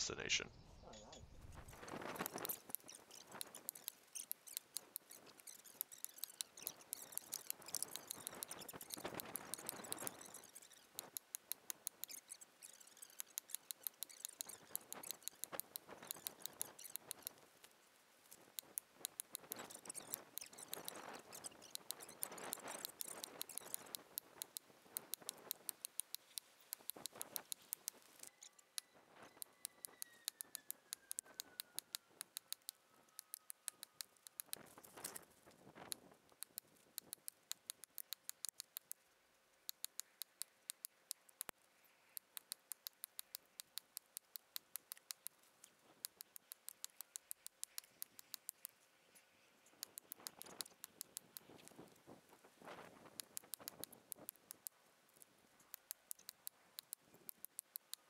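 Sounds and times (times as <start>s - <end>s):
rapid faint ticks: 1.7s - 28.3s, 29.2s - 48.9s, 49.6s - 58.0s.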